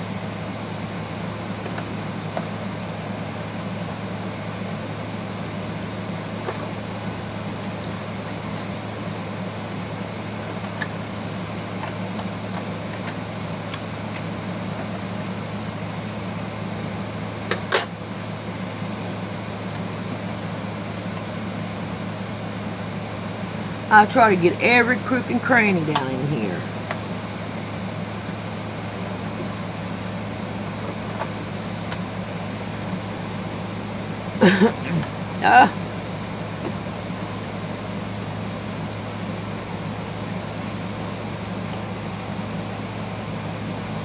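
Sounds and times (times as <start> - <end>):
mechanical hum: 0.0 - 44.0.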